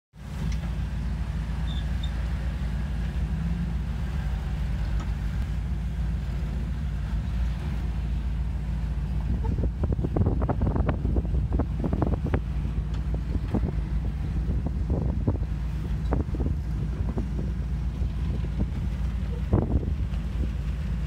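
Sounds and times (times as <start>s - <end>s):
engine running low and steady: 0.2s - 21.0s.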